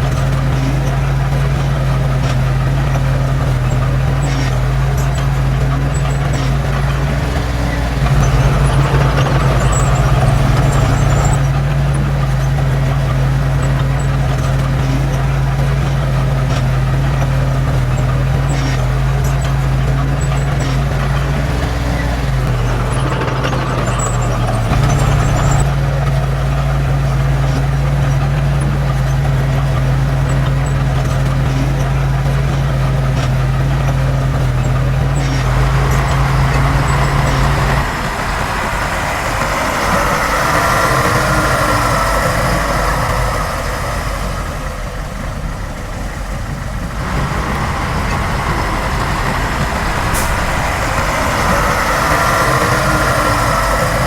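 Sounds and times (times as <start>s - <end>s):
faint machine whine: 0.0s - 54.0s
heavy diesel engine humming: 0.0s - 54.0s.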